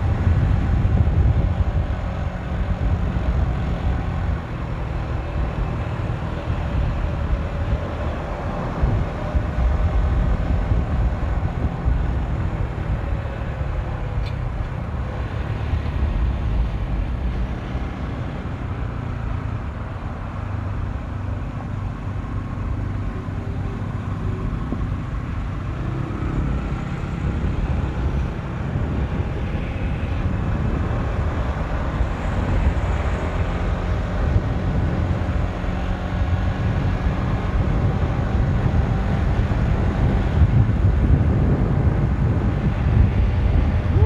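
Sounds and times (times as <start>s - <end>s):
road and wind rumble: 0.0s - 44.0s.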